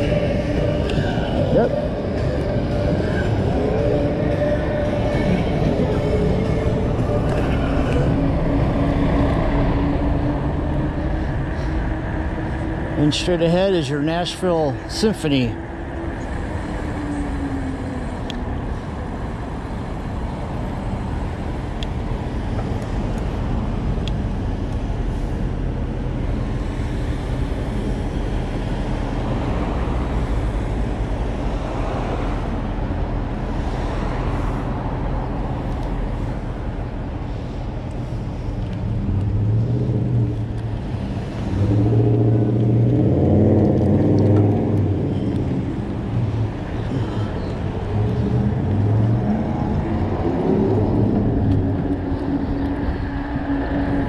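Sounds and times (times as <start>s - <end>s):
passing cars and road noise: 0.0s - 54.0s
vehicle engine hum: 0.0s - 54.0s.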